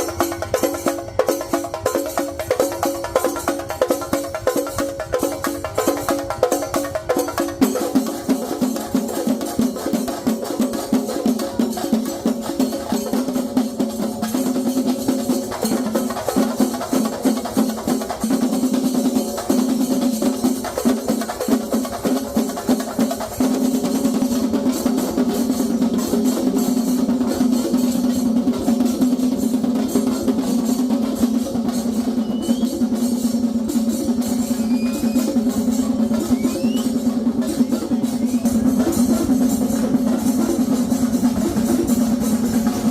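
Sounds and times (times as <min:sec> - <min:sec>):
rapid drum roll: 0:00.0 - 0:42.9.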